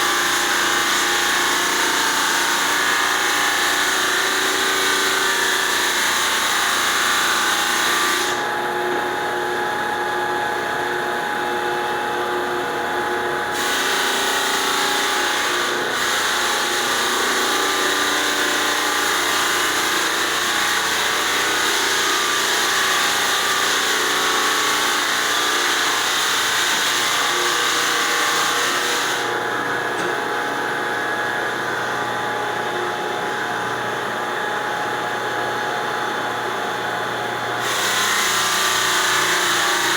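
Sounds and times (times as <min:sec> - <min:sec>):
floor sander drone: 0:00.0 - 0:39.9.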